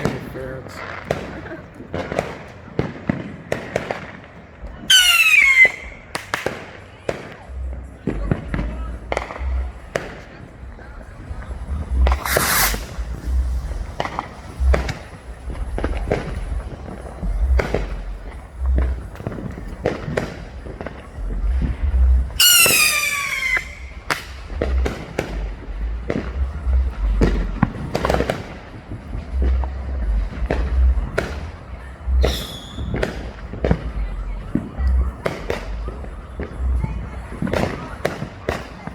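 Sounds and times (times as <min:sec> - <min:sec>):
fireworks bangs and pops: 0:00.0 - 0:38.9
low fireworks booms: 0:00.0 - 0:38.9
whistling firework: 0:00.0 - 0:38.9.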